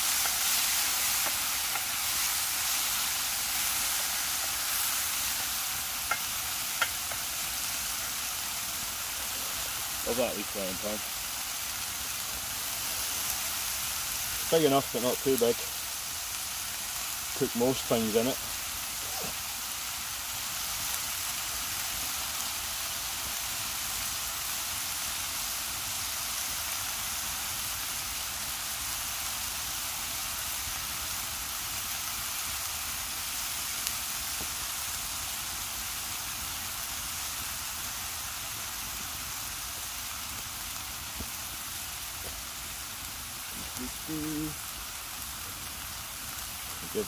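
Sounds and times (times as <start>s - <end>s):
pork sizzling in a frying pan: 0.0s - 47.0s.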